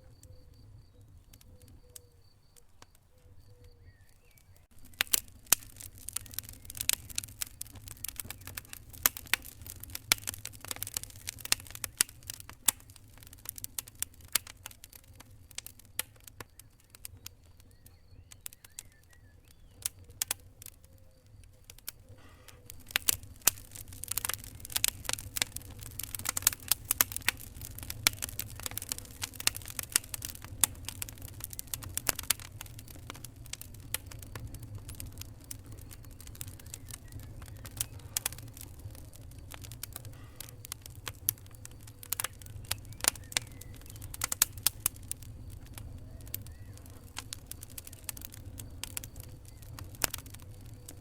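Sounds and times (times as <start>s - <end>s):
low rumble of flames: 0.0s - 51.0s
wood fire crackling and popping: 0.0s - 51.0s.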